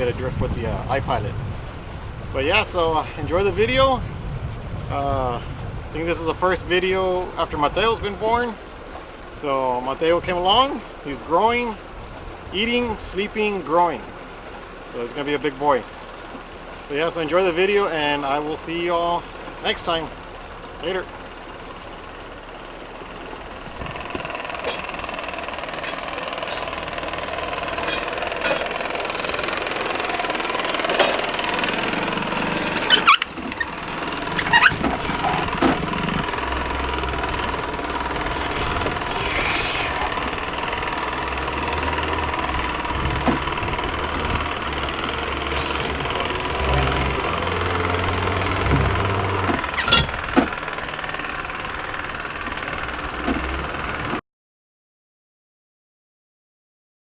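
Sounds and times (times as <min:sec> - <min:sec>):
engine running: 0:00.0 - 0:54.2.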